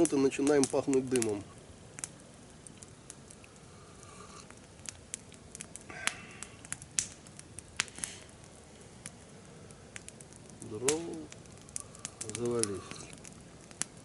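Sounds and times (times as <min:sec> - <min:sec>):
campfire crackling and popping: 0:00.0 - 0:14.0
low fire hiss: 0:00.0 - 0:14.0.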